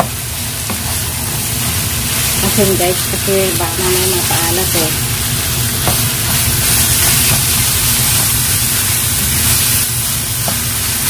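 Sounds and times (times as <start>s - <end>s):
meat and onion sizzling in a pan: 0.0s - 11.0s
low hum: 1.1s - 10.4s.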